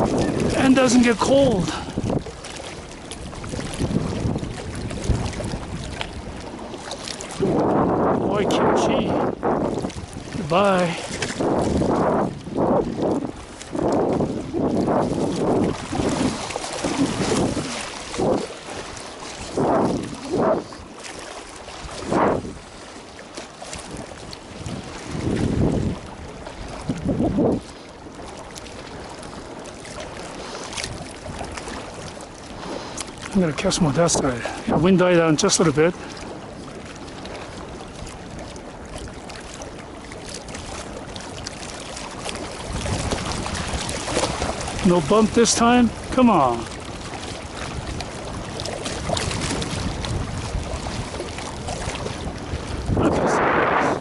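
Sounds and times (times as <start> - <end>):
water lapping and splashing: 0.0 - 54.0
wind buffeting microphone: 0.0 - 54.0.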